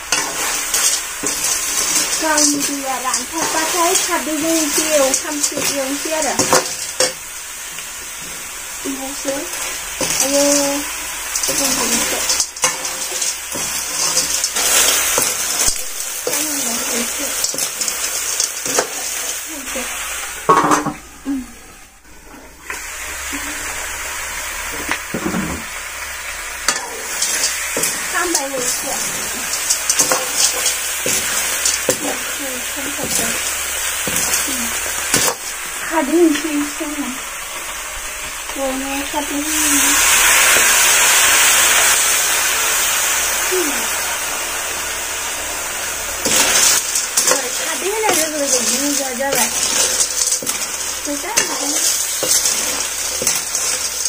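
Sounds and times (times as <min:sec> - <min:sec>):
snails sizzling in a wok: 0:00.0 - 0:54.0.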